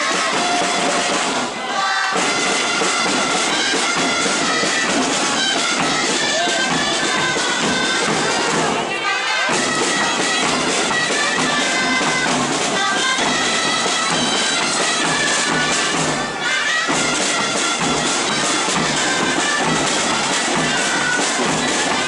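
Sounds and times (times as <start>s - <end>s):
dance music on reedy wind instruments: 0.0s - 22.0s.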